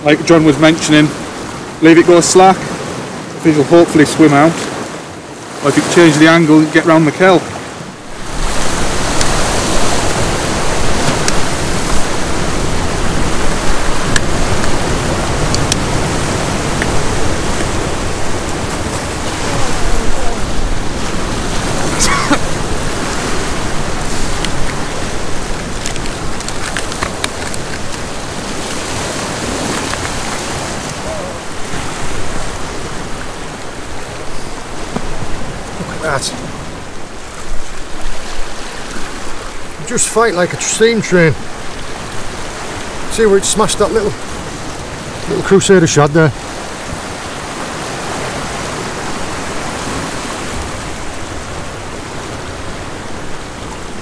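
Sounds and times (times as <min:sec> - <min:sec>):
surf washing on rocks: 0:00.0 - 0:54.0
wind: 0:00.0 - 0:54.0.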